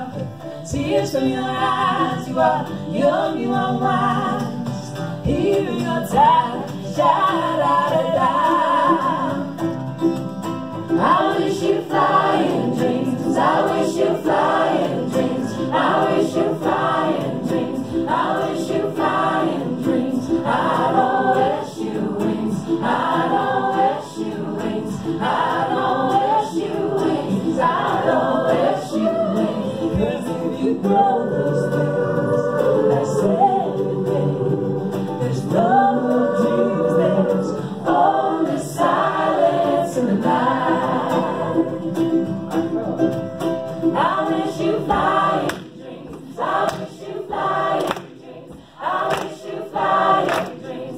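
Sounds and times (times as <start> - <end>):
choir singing: 0.0 - 10.1, 10.7 - 50.9
acoustic guitar: 0.0 - 50.9.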